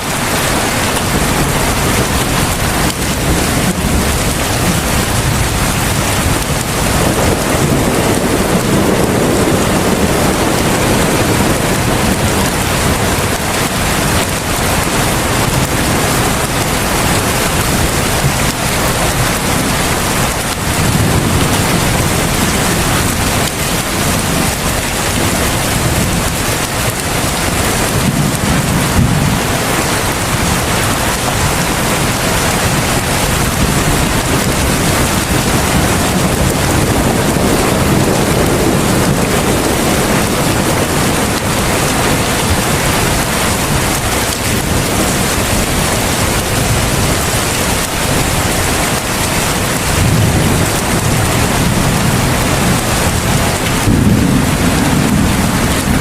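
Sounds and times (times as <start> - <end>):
heavy rain falling: 0.0 - 56.0
distant thunder rumbling: 0.1 - 56.0.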